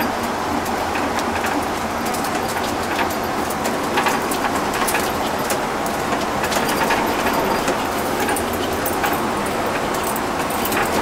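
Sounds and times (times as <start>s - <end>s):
road and engine noise: 0.0s - 11.0s
small clicks and rattles: 0.6s - 11.0s.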